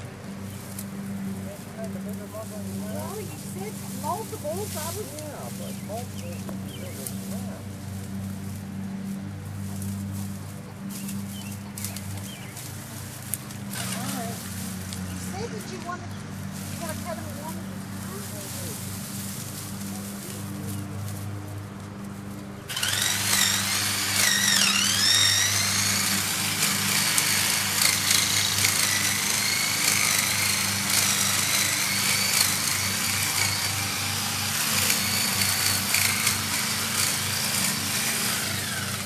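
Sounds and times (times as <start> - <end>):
power saw whining: 0.0 - 39.0.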